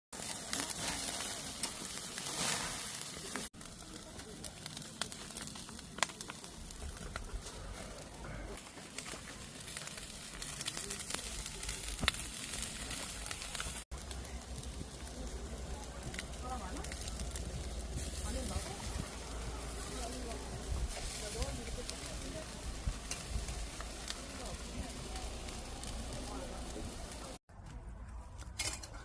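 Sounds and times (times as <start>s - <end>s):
burning wood popping and crackling: 0.1s - 27.4s
meat sizzling on a grill: 0.2s - 27.4s.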